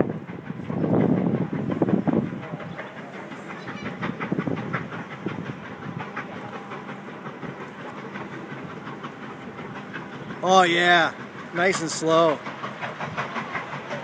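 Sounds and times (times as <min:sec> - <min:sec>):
train wheels clicking over rail joints: 0:00.0 - 0:14.0.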